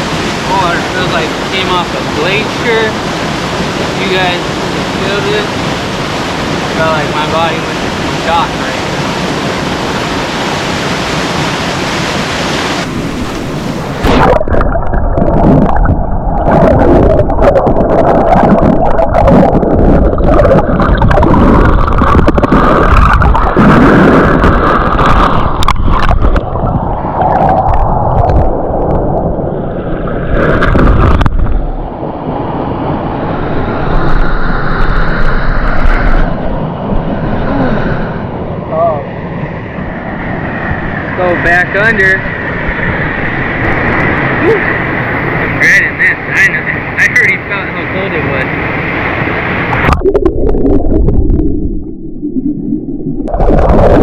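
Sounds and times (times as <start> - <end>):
stream water rushing: 0.0 - 28.9, 29.5 - 50.2
underwater creek gurgling: 0.0 - 54.0.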